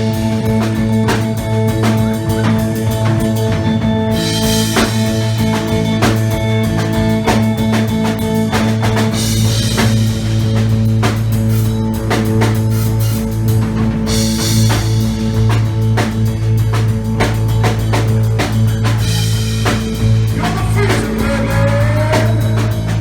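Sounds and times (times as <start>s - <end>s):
band playing rock: 0.0s - 23.0s
heavy drum hits: 0.0s - 23.0s
low droning note: 0.0s - 23.0s.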